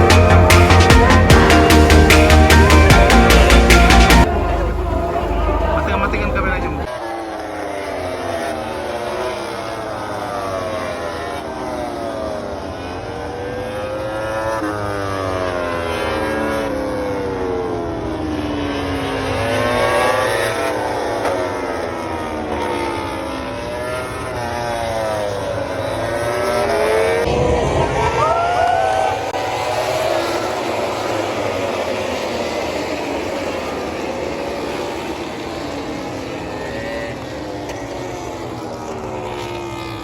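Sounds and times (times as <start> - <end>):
racing motorcycles accelerating past: 0.0 - 40.0.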